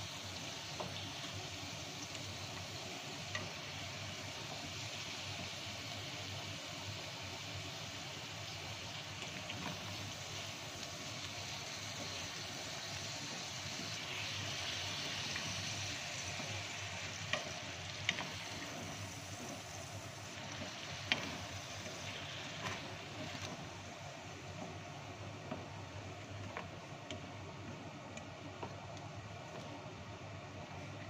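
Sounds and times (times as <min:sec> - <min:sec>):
food sizzling in oil: 0:00.0 - 0:27.9.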